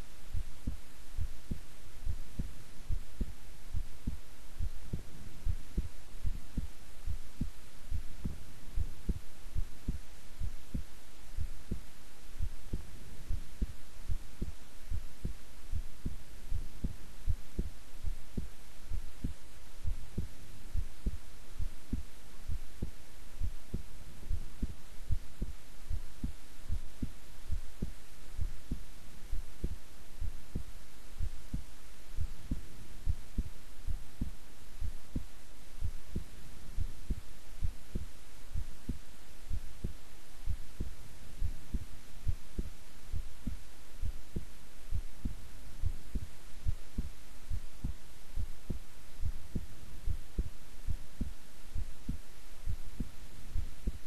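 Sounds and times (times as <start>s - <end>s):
constant low hum: 0.0s - 54.0s
heartbeat thumps: 0.0s - 54.0s.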